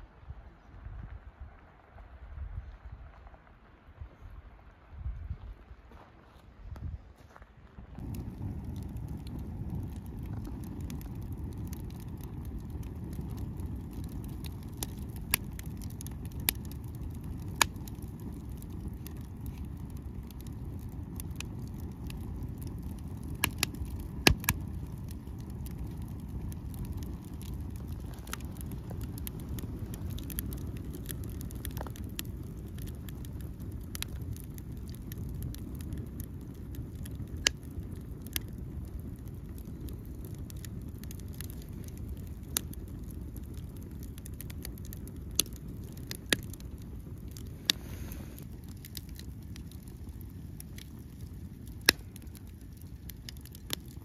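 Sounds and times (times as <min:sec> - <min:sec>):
low fire rumble: 0:00.0 - 0:54.0
wood fire crackling and popping: 0:07.9 - 0:54.0.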